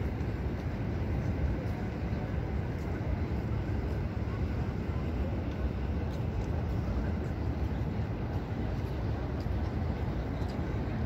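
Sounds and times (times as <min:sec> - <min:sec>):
distant voices murmuring: 0:00.0 - 0:11.0.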